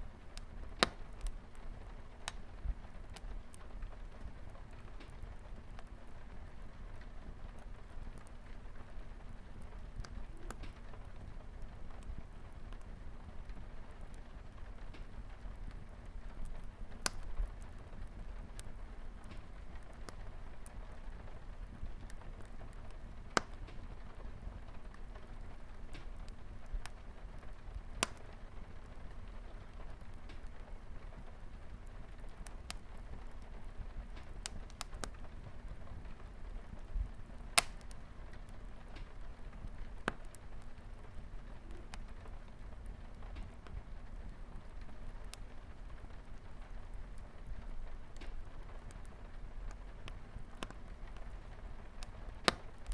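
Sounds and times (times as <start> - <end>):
fire crackling and popping: 0.0 - 52.9
light rain on a window: 0.0 - 52.9.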